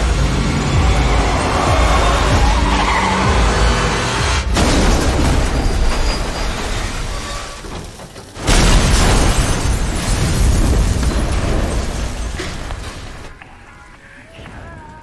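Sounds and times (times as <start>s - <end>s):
truck crash: 0.0s - 13.4s.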